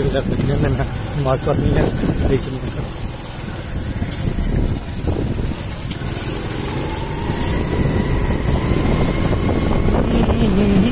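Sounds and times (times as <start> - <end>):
small motorcycle engine running: 0.0 - 10.9
wind on microphone: 0.0 - 10.9.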